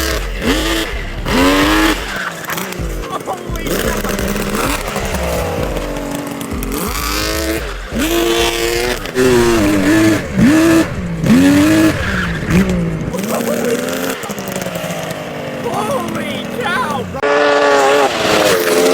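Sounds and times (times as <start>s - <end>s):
small engine revving: 0.0s - 18.9s.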